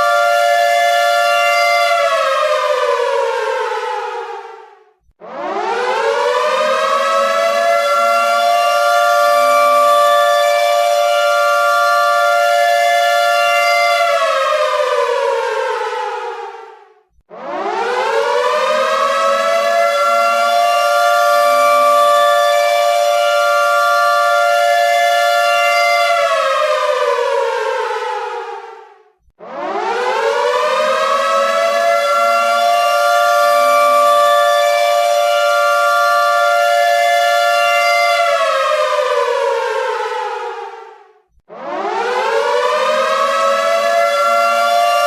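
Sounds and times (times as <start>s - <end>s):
air raid siren wailing: 0.0s - 45.0s.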